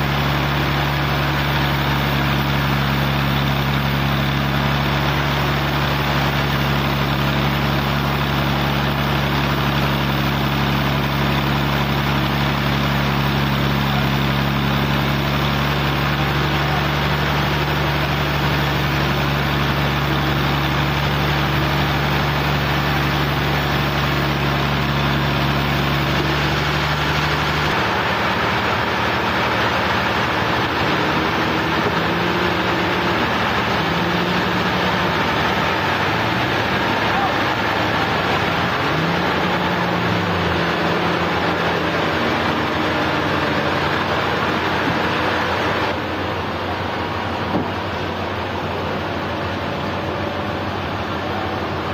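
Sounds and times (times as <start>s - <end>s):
sawmill engine humming: 0.0s - 51.9s.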